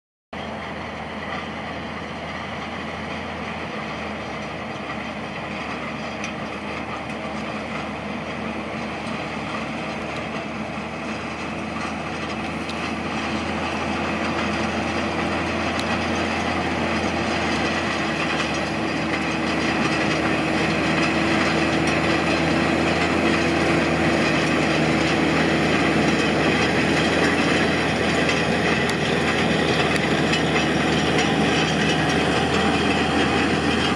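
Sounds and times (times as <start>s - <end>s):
tractor diesel engine running: 0.3s - 33.9s
field roller clattering: 0.4s - 33.9s.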